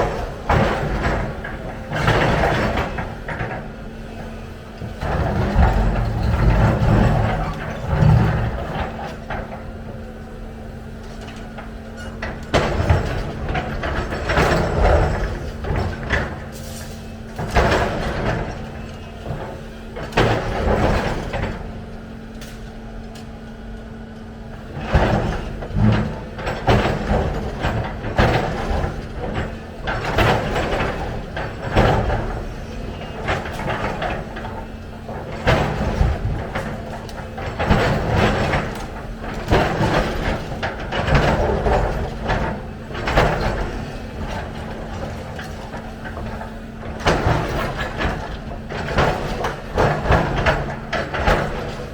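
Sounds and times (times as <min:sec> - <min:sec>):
excavator engine hum: 0:00.0 - 0:51.9.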